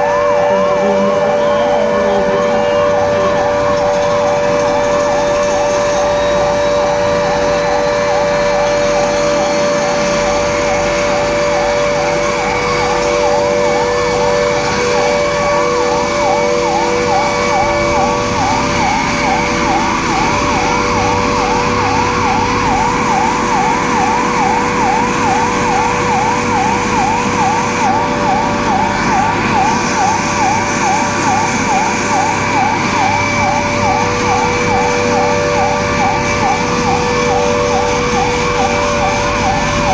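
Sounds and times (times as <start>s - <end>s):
emergency siren yelping: 0.0s - 39.9s.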